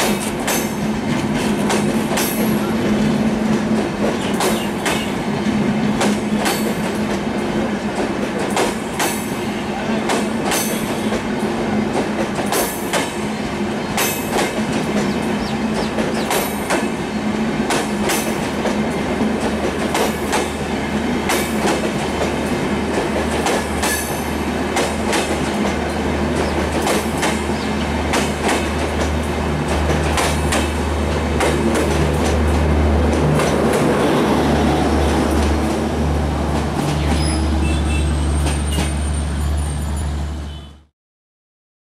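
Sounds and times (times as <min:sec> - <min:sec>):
train wheels clicking over joints: 0:00.0 - 0:37.4
train low rumble: 0:00.0 - 0:40.6.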